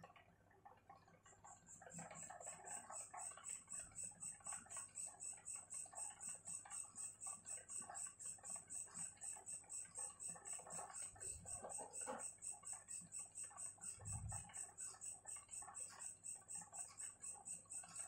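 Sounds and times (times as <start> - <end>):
high-pitched insect chirping: 2.0 - 18.0.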